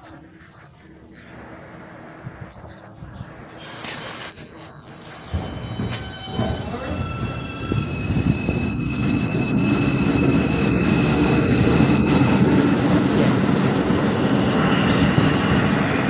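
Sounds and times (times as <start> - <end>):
faint high whine: 0.0 - 16.0
subway train rumbling: 1.2 - 16.0.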